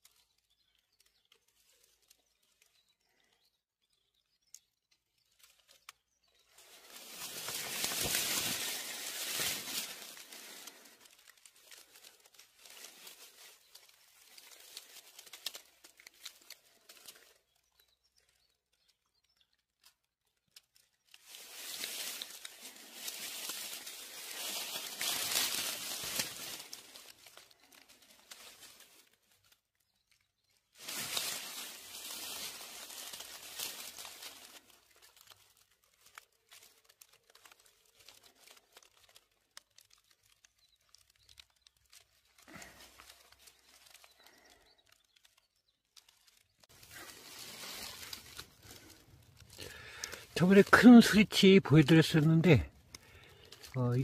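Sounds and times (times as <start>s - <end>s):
dry leaves rustling and crackling: 0.0s - 3.3s, 4.4s - 54.0s.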